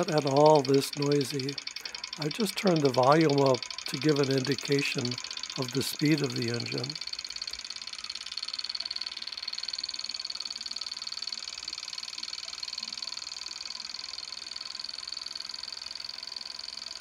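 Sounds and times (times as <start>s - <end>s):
model engine clattering: 0.0s - 17.0s.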